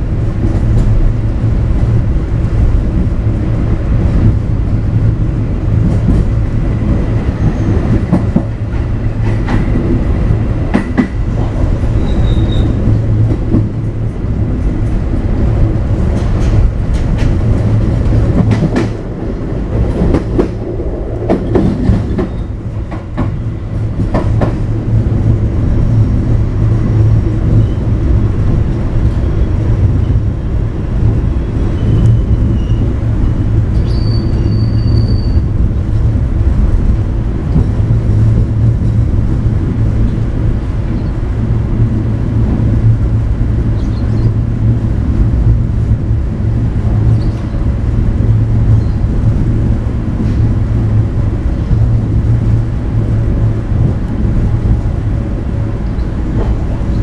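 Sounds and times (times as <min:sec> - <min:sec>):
train rumbling along track: 0:00.0 - 0:57.0.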